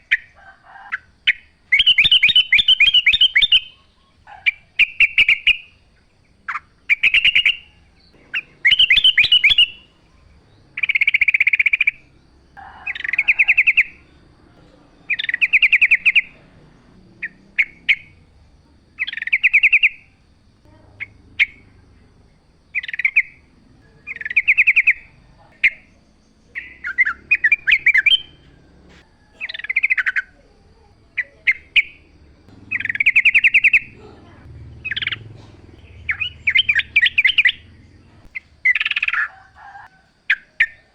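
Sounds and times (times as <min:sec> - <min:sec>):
bird singing warbled phrases: 0:00.0 - 0:40.9.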